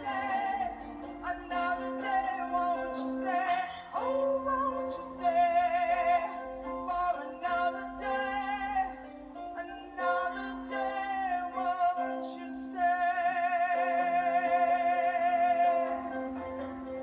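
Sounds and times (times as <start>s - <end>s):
woman singing: 0.0s - 16.4s.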